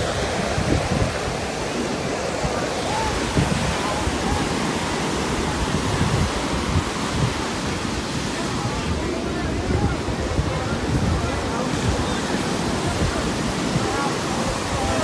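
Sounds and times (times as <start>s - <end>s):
faint voices: 0.0s - 15.0s
ocean surf breaking: 0.0s - 15.0s.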